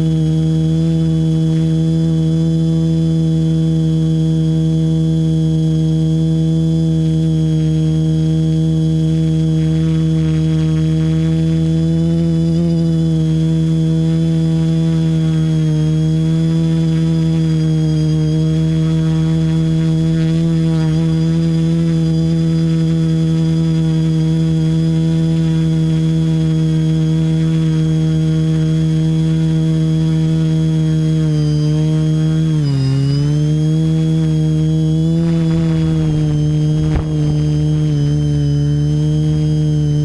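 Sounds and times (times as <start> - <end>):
quadcopter motors humming: 0.0 - 40.0.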